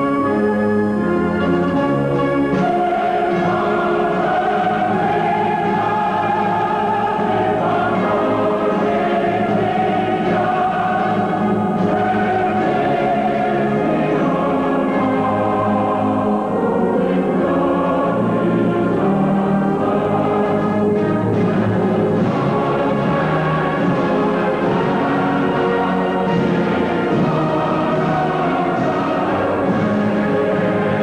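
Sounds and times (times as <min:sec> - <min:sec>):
choir singing held chords: 0:00.0 - 0:31.0.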